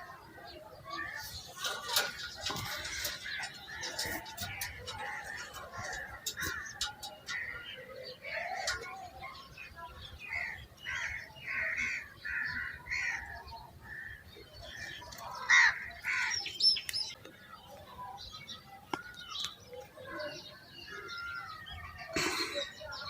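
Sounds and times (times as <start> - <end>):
birds chirping and calling: 0.0 - 23.0.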